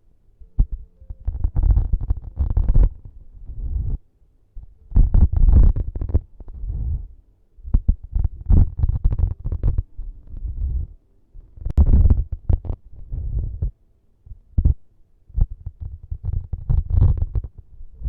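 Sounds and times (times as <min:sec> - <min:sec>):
rubbing and scratching on microphone: 0:00.5 - 0:04.0, 0:04.6 - 0:18.0.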